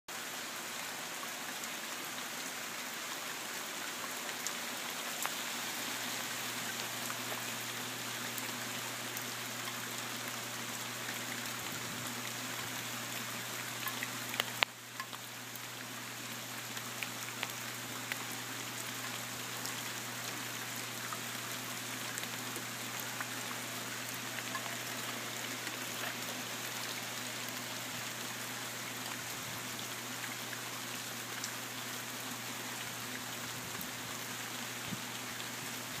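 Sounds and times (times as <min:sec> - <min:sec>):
steady rain falling: 0:00.1 - 0:36.0.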